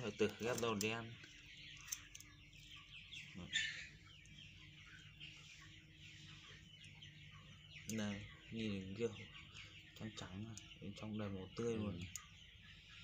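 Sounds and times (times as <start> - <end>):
chickens chirping: 0.0 - 13.0.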